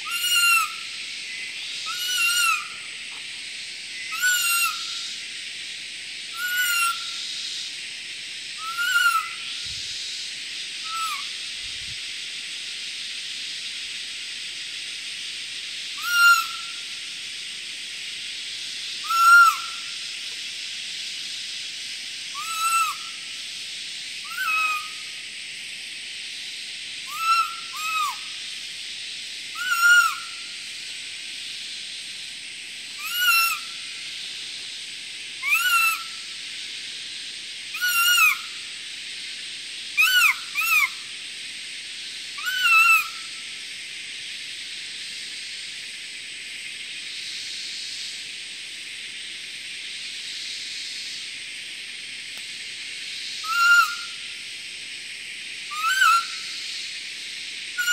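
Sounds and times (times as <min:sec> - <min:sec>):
steady high hiss: 0:00.0 - 0:57.9.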